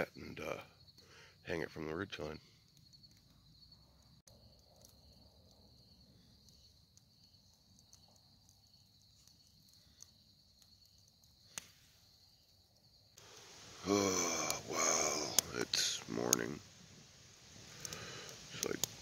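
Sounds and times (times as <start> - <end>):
crickets chirring: 0.0 - 19.0
wood fire popping: 2.1 - 19.0.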